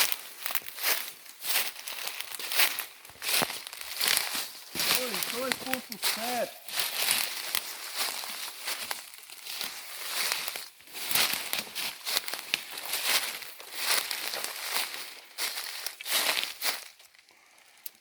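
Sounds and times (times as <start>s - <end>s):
footsteps crackling through dry leaves: 0.0s - 17.3s.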